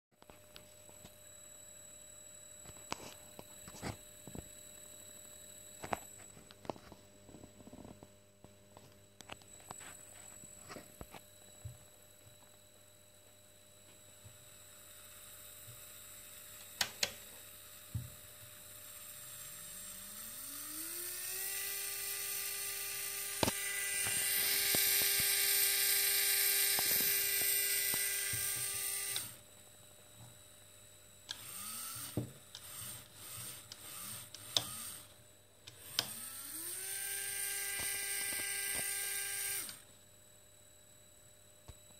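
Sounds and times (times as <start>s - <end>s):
electric motor whine: 0.2s - 8.1s, 8.8s - 40.0s.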